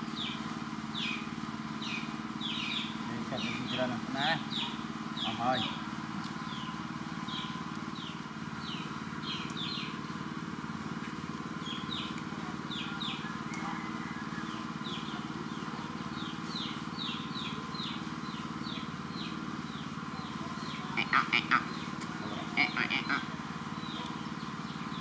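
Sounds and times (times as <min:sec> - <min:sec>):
birds chirping: 0:00.0 - 0:25.0
low mechanical hum: 0:00.0 - 0:25.0.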